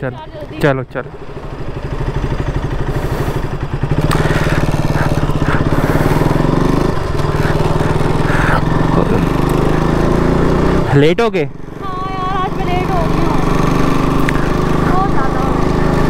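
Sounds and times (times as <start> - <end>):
motorcycle engine pulling away: 0.4 - 16.0.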